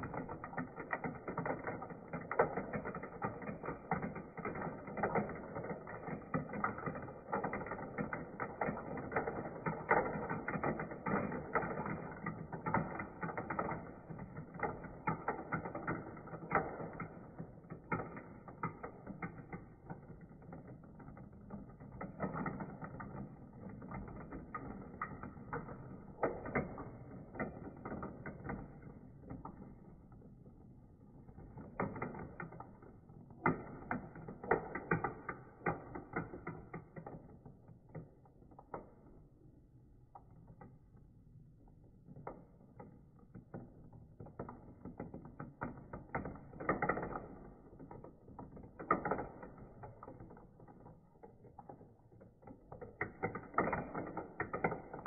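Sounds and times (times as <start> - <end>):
marbles rattling in plastic run: 0.0 - 39.4, 41.4 - 55.0.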